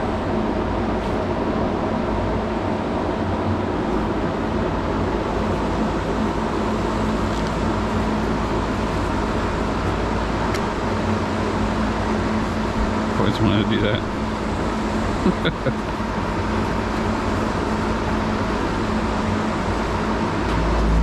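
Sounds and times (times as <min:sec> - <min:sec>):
electric fan humming: 0:00.0 - 0:21.0.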